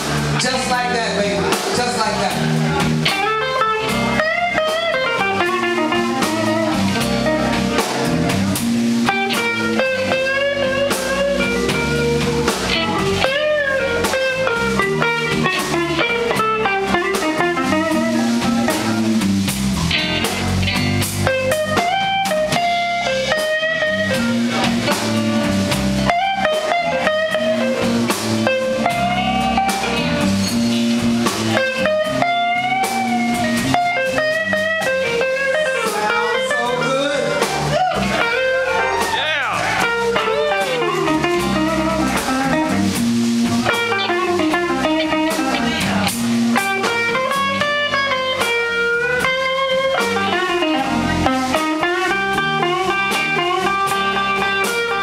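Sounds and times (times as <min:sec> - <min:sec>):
bass: 0:00.0 - 0:55.0
drum kit: 0:00.0 - 0:55.0
electric guitar lead: 0:00.0 - 0:55.0.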